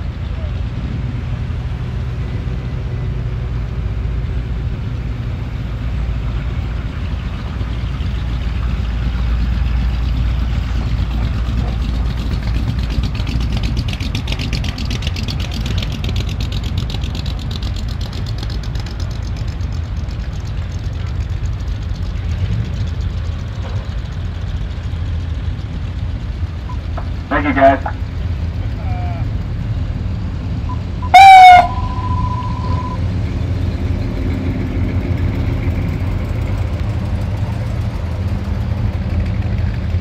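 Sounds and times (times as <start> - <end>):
car engines rumbling past: 0.0 - 40.0
fast pulsing exhaust: 0.0 - 40.0.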